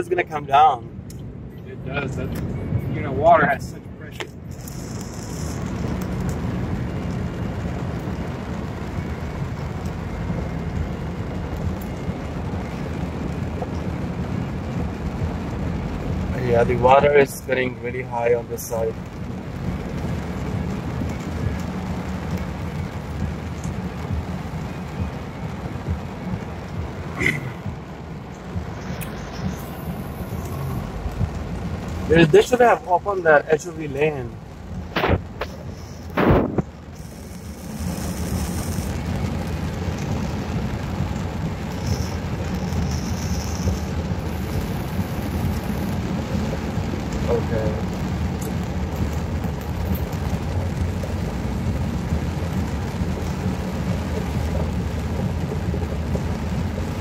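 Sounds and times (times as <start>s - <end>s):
car driving rumble: 0.0s - 57.0s
heavy rain on car roof: 0.0s - 57.0s.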